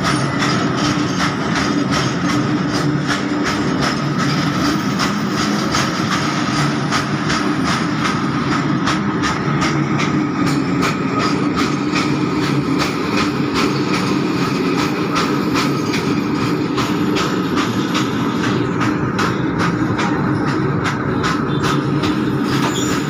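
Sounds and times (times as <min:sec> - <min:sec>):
train wheels rumbling on rail: 0:00.0 - 0:23.0
wheels clicking over rail joints: 0:00.0 - 0:23.0.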